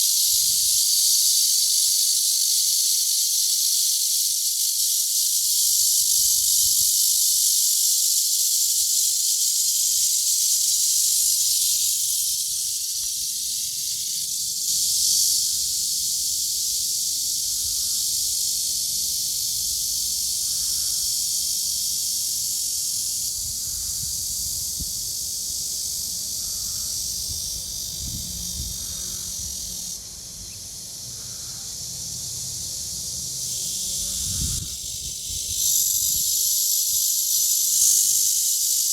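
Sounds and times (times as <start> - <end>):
cicadas buzzing in chorus: 0.0 - 38.9.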